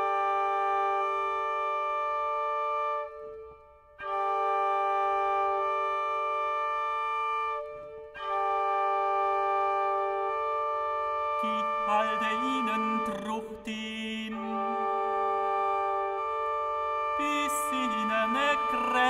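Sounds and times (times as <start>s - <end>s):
organ-like chords over drone: 0.0s - 19.0s.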